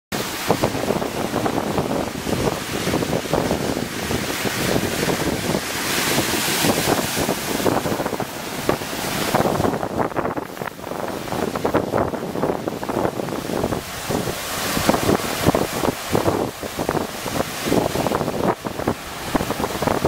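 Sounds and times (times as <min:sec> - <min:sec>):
surf breaking on rocky shore: 0:00.1 - 0:20.0
wind buffeting microphone: 0:00.1 - 0:20.0.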